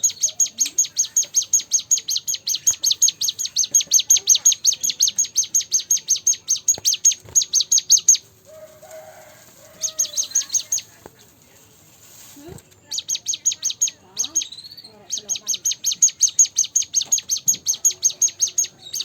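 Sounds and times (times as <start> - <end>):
bird's fast high chirps: 0.0 - 8.3, 9.8 - 11.0, 12.8 - 19.0.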